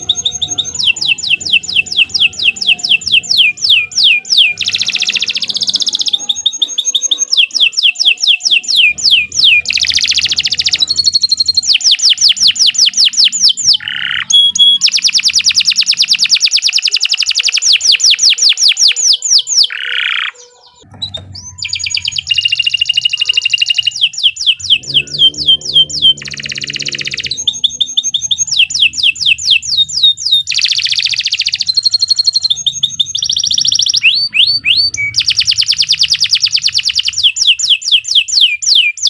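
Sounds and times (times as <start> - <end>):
canary singing: 0.0 - 39.0.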